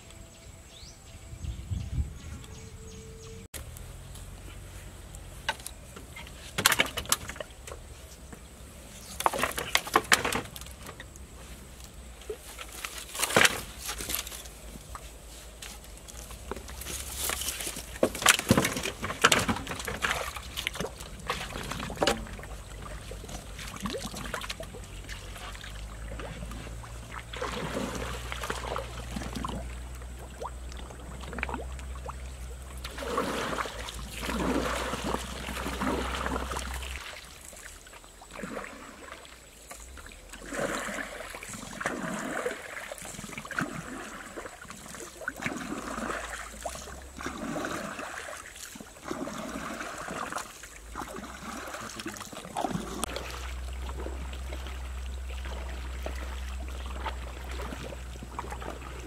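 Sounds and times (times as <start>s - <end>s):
boat pole swishing through water: 2.4s - 59.0s
river water splashing: 2.8s - 59.0s.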